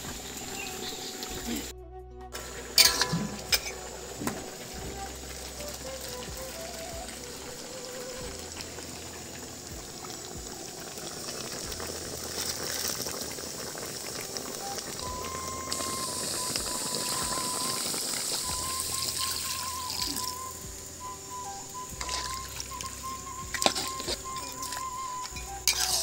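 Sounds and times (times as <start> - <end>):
food bubbling and sizzling in a wok: 0.0 - 1.7, 2.4 - 26.0.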